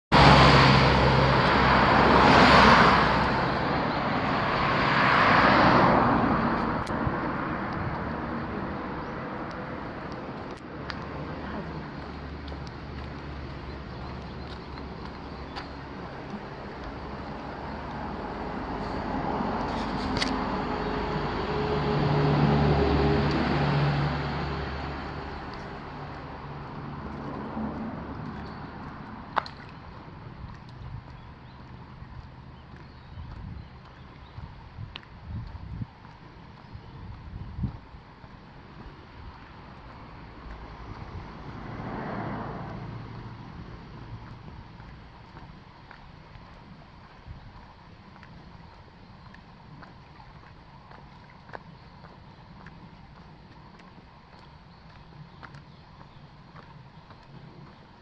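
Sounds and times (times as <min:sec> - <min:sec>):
cars passing on road: 0:00.1 - 0:58.0.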